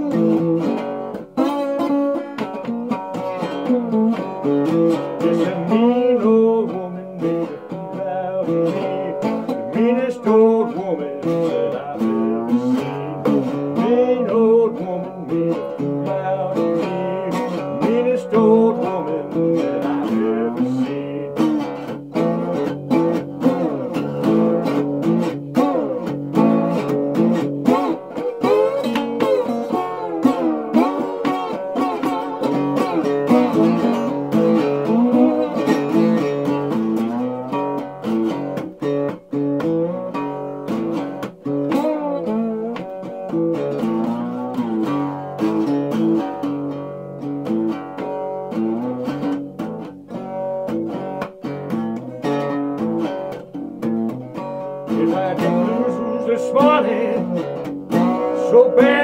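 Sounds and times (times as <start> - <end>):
acoustic blues guitar: 0.0 - 59.0.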